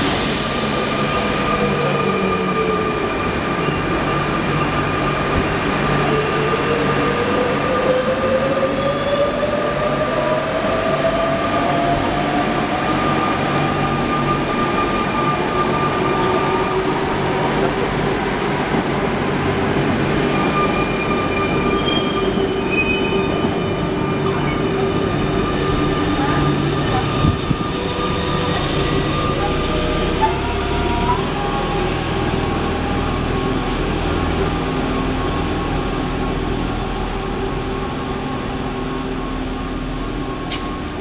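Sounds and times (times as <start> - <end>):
electric train rumbling: 0.0 - 41.0
train whine rising in pitch: 0.0 - 41.0.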